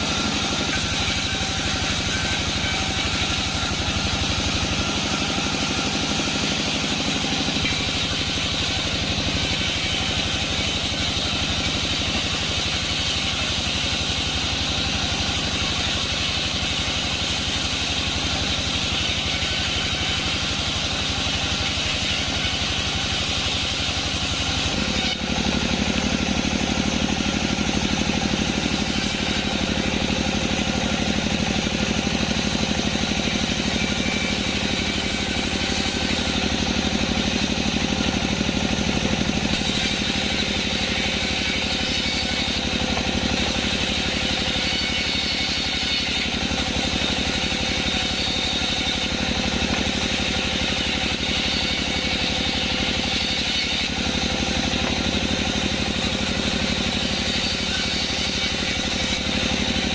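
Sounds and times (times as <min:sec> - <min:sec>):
bandsaw machinery humming: 0:00.0 - 0:59.9.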